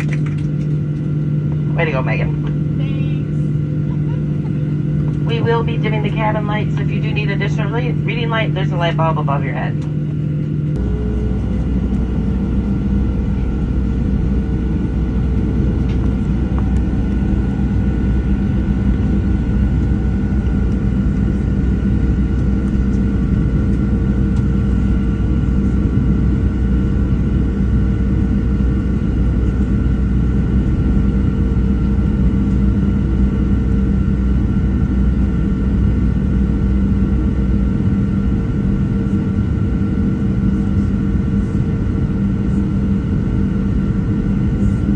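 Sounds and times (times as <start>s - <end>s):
jet engine cabin rumble: 0.0s - 44.9s.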